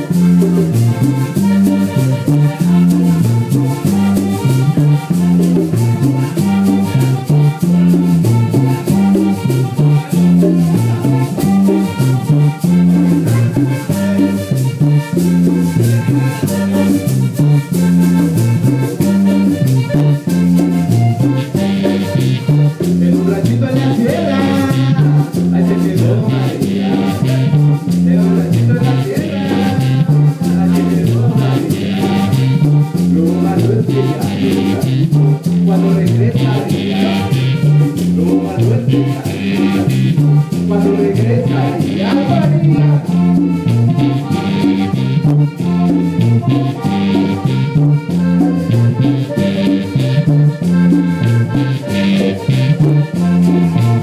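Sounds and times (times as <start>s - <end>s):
hand percussion: 0.0s - 54.0s
live band playing dance music: 0.0s - 54.0s.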